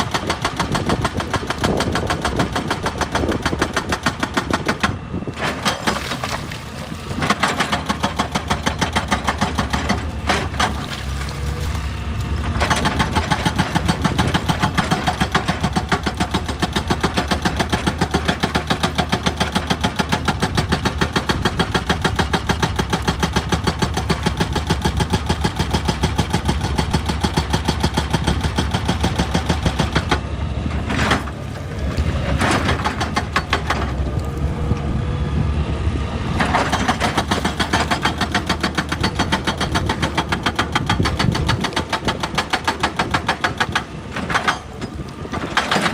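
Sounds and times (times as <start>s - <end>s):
hydraulic rock breaker hammering: 0.0s - 11.1s, 12.4s - 34.1s, 36.4s - 45.9s
diesel engine running: 0.0s - 45.9s.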